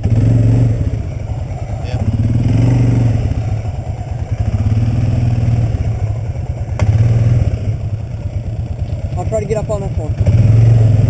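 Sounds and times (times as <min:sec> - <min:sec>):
quad engine revving: 0:00.0 - 0:11.0.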